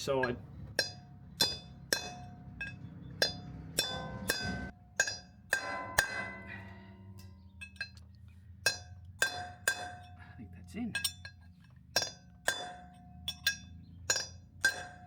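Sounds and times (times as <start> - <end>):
hammer striking metal: 0.2 - 8.0, 8.6 - 10.2, 12.0 - 15.0.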